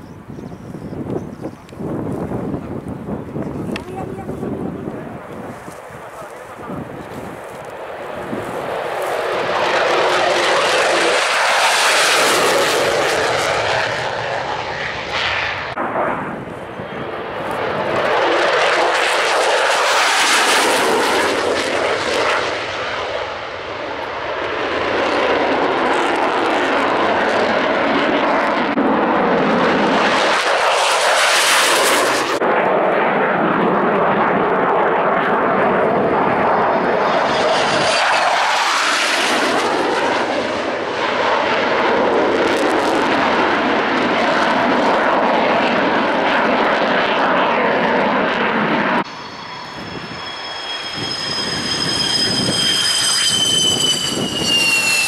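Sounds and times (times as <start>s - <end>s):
jet engine roaring: 0.0s - 55.0s.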